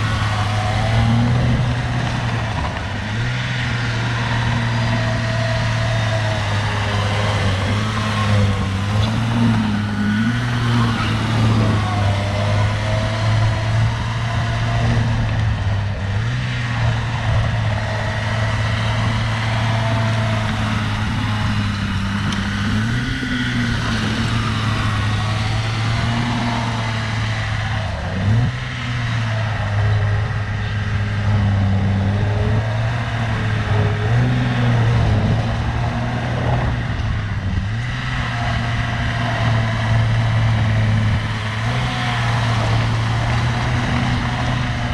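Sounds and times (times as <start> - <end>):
diesel engine of earthmover: 0.0 - 44.9.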